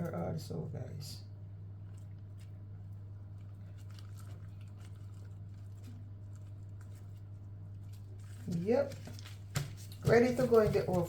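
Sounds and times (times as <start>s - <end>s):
low electrical hum: 0.0s - 11.0s
raw chicken being handled: 1.6s - 11.0s.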